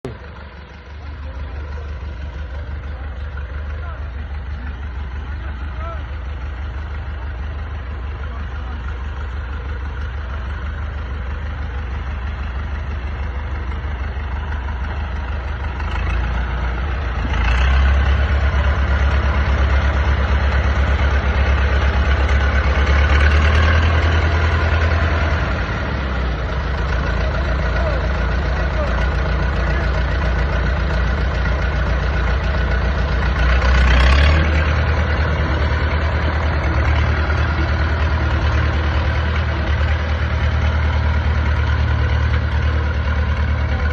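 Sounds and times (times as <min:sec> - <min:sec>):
old tractor engine running: 0:00.0 - 0:43.9.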